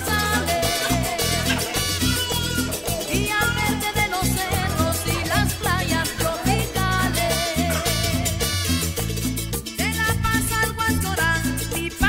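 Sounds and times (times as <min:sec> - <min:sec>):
salsa dance music: 0:00.0 - 0:12.0.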